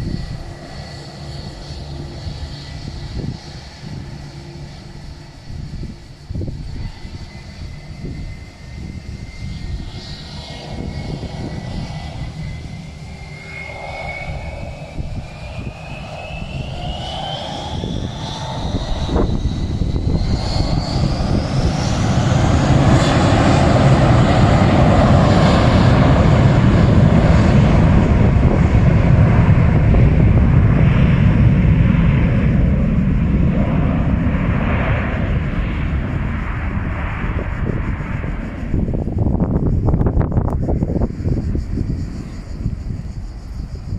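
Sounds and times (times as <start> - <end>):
airliner passing overhead: 0.0 - 43.9
jet engine whine: 0.0 - 43.9.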